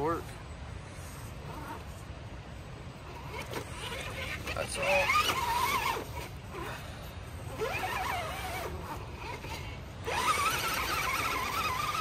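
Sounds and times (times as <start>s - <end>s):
rc car motor and gears whining: 1.0s - 2.0s, 3.0s - 12.0s.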